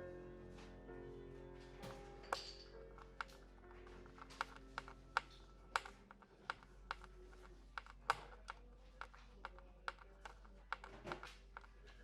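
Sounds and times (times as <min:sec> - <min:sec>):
sharp clicks and taps: 0:01.8 - 0:12.0.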